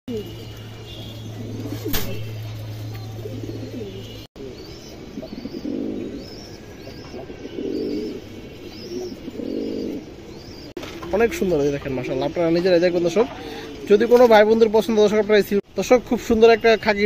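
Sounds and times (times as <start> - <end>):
pigeons cooing: 0.1 - 14.7.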